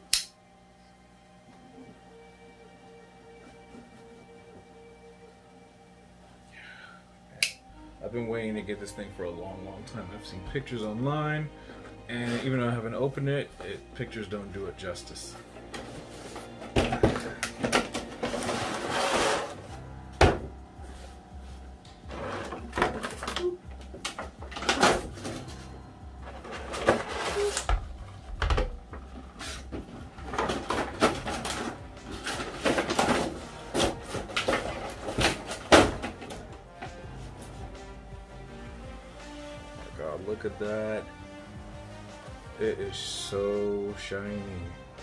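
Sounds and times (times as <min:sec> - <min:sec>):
background music: 0:00.0 - 0:45.0.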